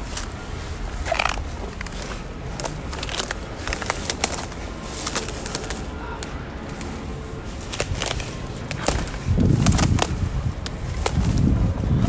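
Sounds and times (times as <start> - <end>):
footsteps through dry brush: 0.0 - 12.0
twigs rustling and snapping: 0.0 - 12.0.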